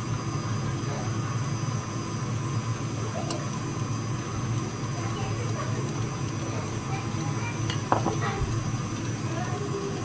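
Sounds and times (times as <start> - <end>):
electric mixer beating batter: 0.0 - 10.0.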